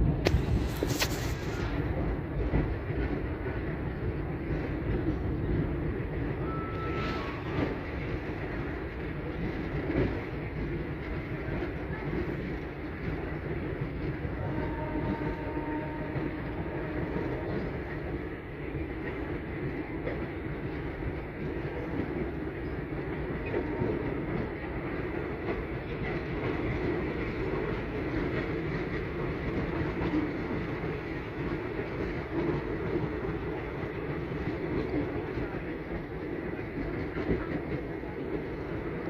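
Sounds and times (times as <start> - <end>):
train wheels rumbling: 0.0 - 39.0.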